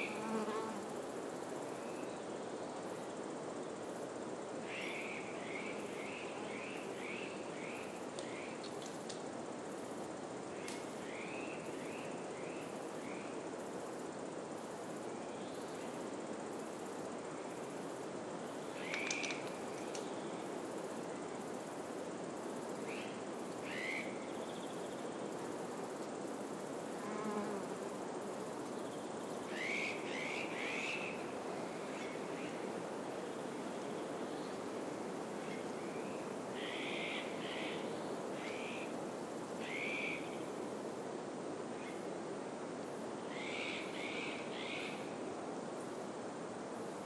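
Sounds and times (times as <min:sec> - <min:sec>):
wind hissing through pine trees: 0:00.0 - 0:47.0.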